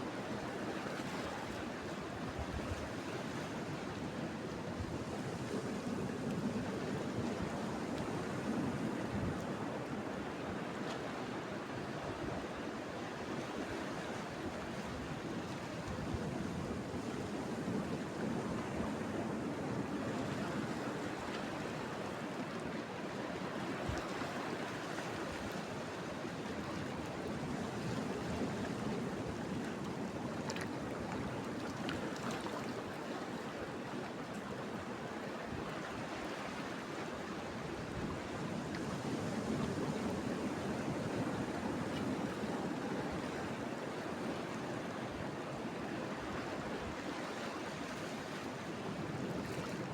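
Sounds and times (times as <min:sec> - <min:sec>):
waves washing on shore: 0:00.0 - 0:49.9.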